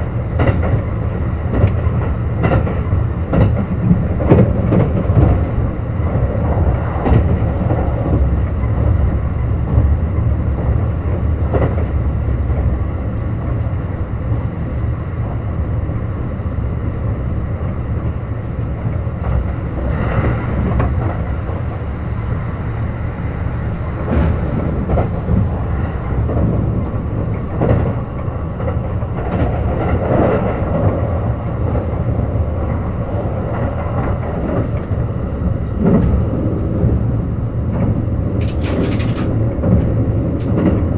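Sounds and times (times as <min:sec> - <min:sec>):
train rumbling at speed: 0:00.0 - 0:40.9.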